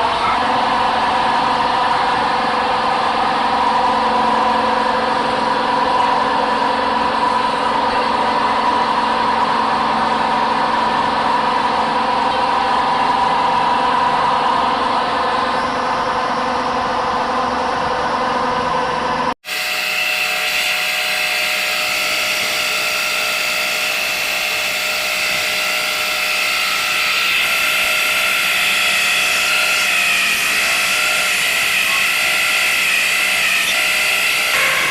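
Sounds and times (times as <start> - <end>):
lathe whining: 0.0 - 34.9.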